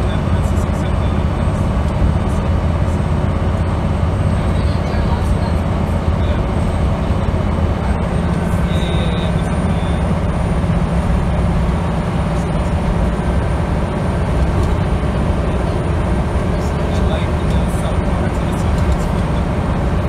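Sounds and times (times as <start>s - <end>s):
bus diesel engine running: 0.0s - 20.0s
road and tyre noise: 0.0s - 20.0s.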